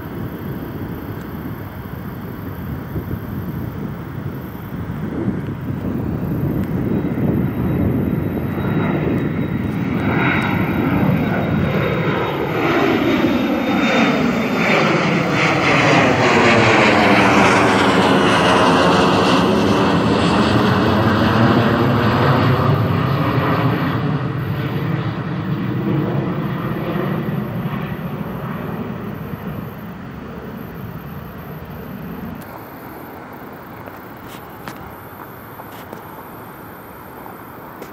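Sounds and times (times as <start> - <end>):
airliner engines roaring overhead: 0.0 - 37.9
high jet whine: 0.0 - 37.9.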